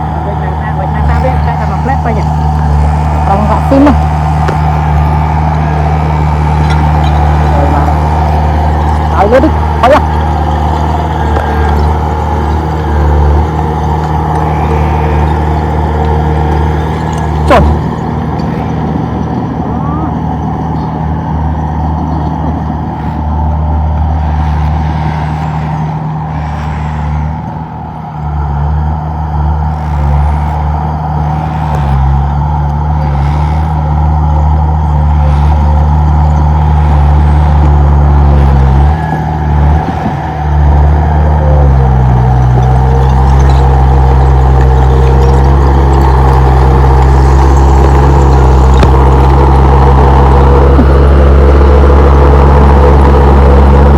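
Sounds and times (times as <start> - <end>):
bulldozer diesel engine droning: 0.0 - 53.9.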